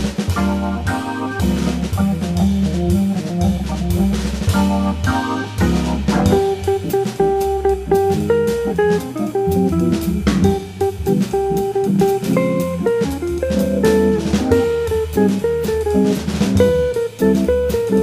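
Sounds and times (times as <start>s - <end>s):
electric jazz guitar melody: 0.0s - 18.0s
organ: 0.0s - 18.0s
ride cymbal beat: 0.0s - 18.0s
walking bass line: 0.0s - 18.0s.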